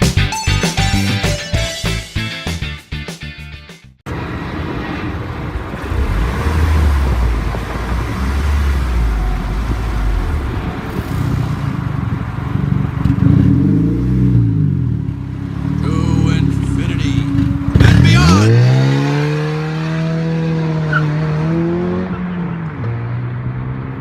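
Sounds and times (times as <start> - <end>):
car engine rumbling and revving: 4.1 - 24.0.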